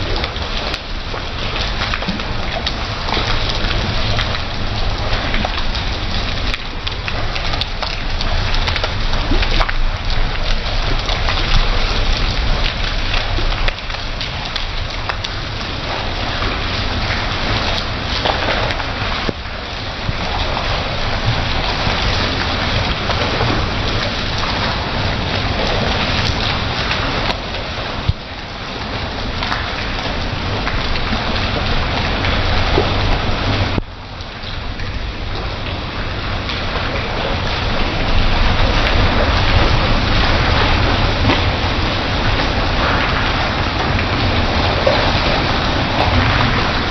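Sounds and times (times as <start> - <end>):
rain splashing on pavement: 0.0 - 46.9.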